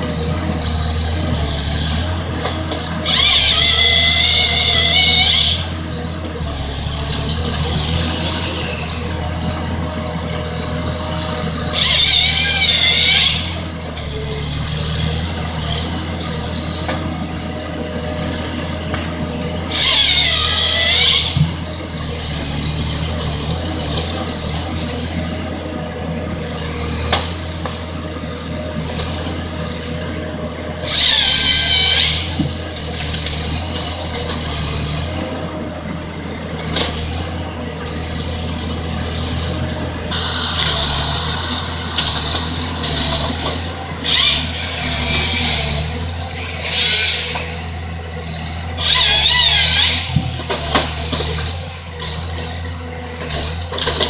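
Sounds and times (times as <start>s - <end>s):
chain saw cutting wood: 0.0s - 17.5s, 18.2s - 25.6s, 26.6s - 54.0s
diesel engine running: 0.0s - 54.0s.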